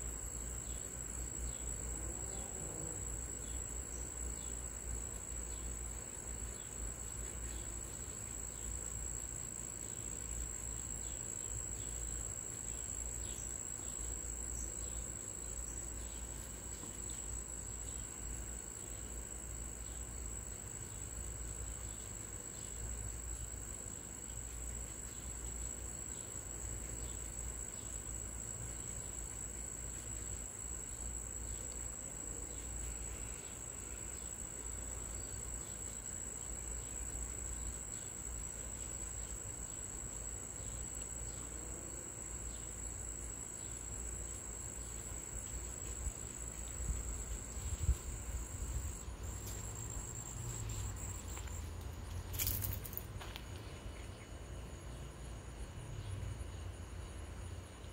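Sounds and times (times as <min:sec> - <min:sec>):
crickets chirring: 0:00.0 - 0:57.9.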